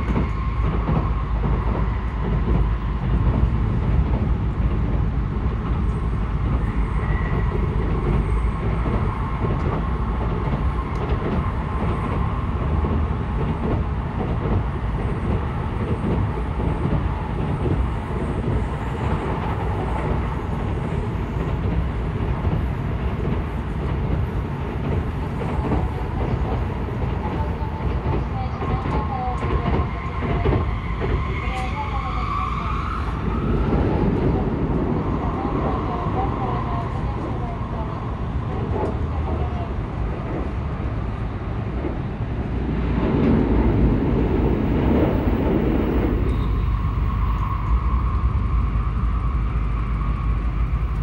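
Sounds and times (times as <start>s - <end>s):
train rumbling on rails: 0.0s - 51.0s.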